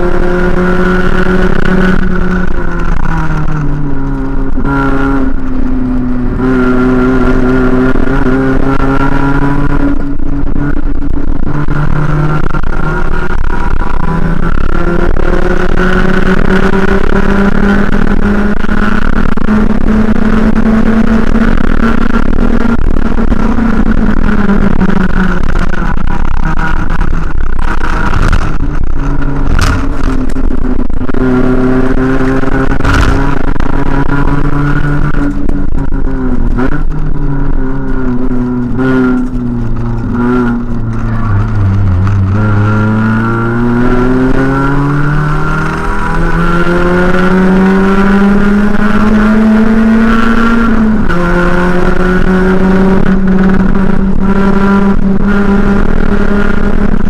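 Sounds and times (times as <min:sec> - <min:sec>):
racing car engine from inside: 0:00.0 - 0:57.0.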